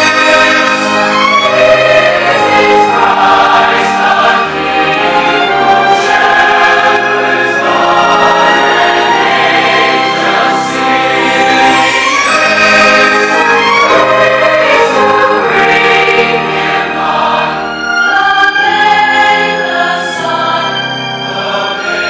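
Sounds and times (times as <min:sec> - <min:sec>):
large choir singing: 0:00.0 - 0:22.0
live orchestra playing: 0:00.0 - 0:22.0.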